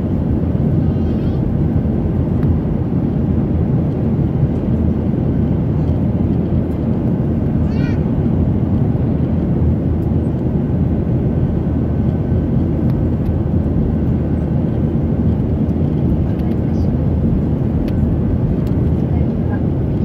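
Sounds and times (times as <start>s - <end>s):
jet cabin engine noise: 0.0s - 20.0s.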